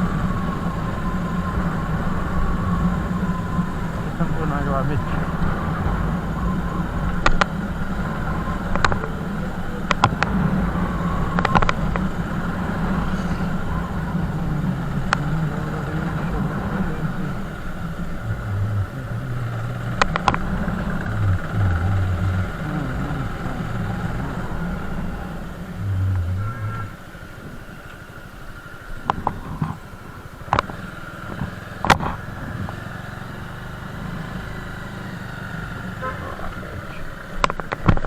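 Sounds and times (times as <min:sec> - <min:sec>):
motorcycle engine riding: 0:00.0 - 0:38.0.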